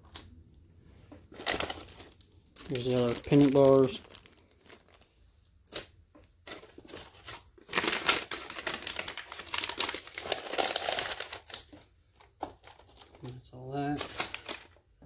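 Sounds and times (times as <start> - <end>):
plastic packaging crinkling: 1.2 - 14.9.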